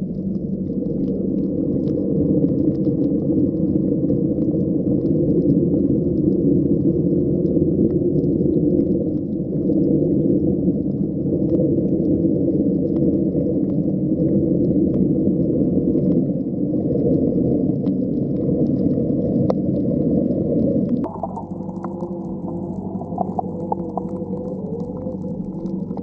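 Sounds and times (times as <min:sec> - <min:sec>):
faint clicks underwater: 0:00.0 - 0:26.0
muffled underwater rumble: 0:00.0 - 0:26.0.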